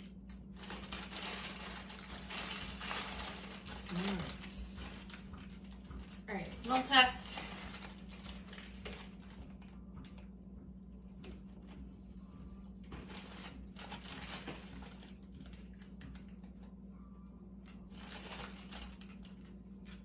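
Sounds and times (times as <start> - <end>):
snack bag rustling: 0.0 - 10.2, 12.8 - 16.6, 17.6 - 20.0
crisps crunching: 0.0 - 10.3, 12.8 - 16.7, 17.6 - 20.0
low hum: 0.0 - 20.0.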